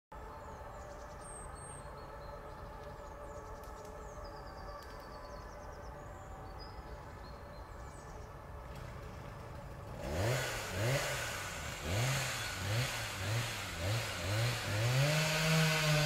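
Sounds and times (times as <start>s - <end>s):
birds chirping: 0.2s - 16.0s.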